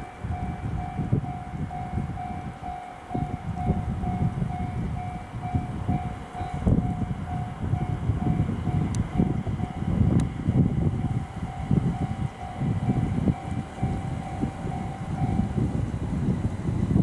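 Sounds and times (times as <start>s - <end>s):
level-crossing warning bell: 0.0s - 16.6s
electric train rumbling: 0.0s - 17.0s.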